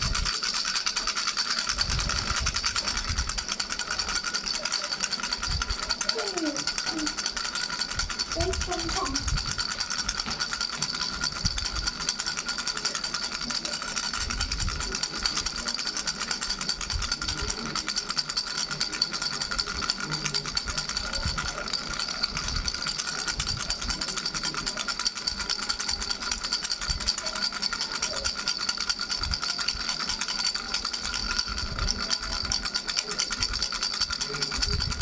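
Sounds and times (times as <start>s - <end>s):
baby rattle bells jingling: 0.0s - 35.0s.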